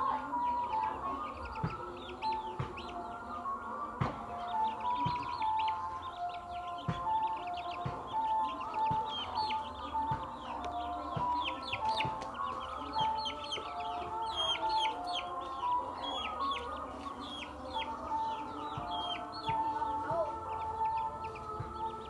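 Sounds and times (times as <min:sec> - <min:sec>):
chicks peeping: 0:00.0 - 0:22.0
slow background music: 0:00.0 - 0:22.0.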